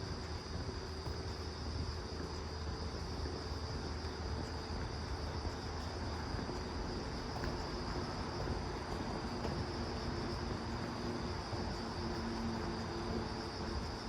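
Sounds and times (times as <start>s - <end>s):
constant low rumble: 0.0s - 14.0s.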